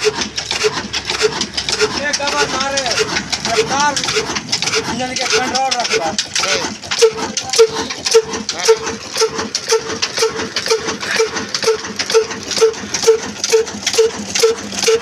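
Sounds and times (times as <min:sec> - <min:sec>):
diesel engine running with clatter: 0:00.0 - 0:15.0.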